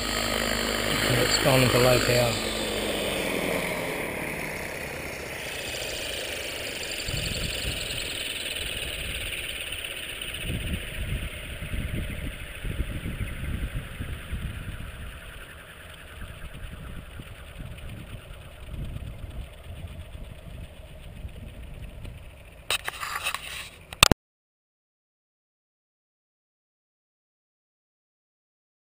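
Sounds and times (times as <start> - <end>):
helicopter rotor winding down: 0.0 - 24.0.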